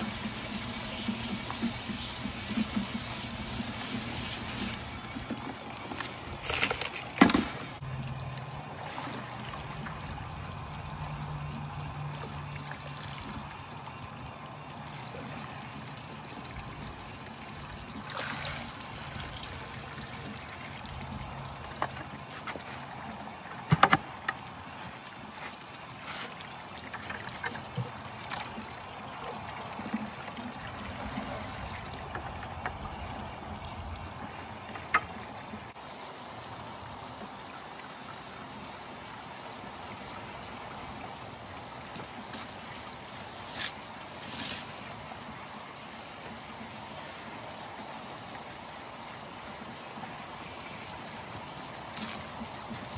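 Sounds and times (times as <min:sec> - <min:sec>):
water trickling and splashing: 0:00.0 - 0:52.9.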